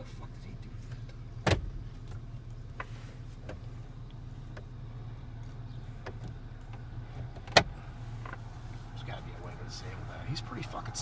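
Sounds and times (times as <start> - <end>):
engine and road hum in cab: 0.0 - 11.0.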